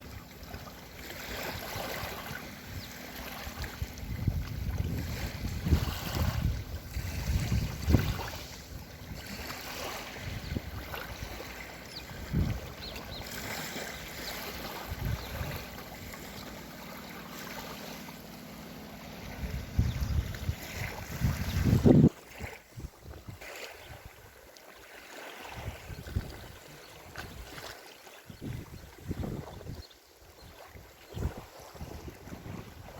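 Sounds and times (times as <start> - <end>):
waves washing in: 0.0 - 27.9
wind buffeting microphone: 1.4 - 13.7, 14.3 - 16.4, 19.2 - 24.4, 25.5 - 27.7, 28.3 - 32.9.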